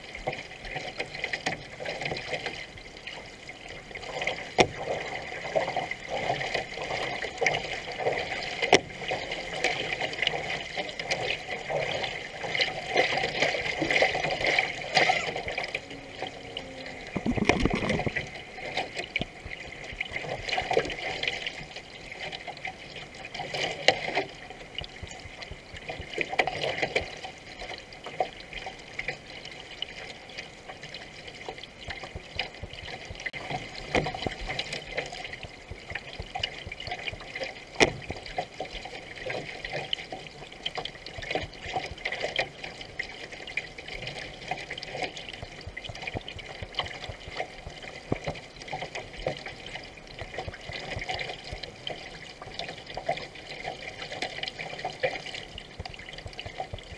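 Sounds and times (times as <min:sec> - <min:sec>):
paddle splashes: 0:00.0 - 0:56.9
water rushing along canoe hull: 0:00.0 - 0:56.9.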